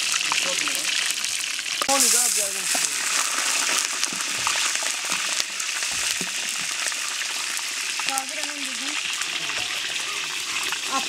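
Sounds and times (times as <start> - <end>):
meat sizzling in oil: 0.0 - 11.0
oil popping: 0.0 - 11.0.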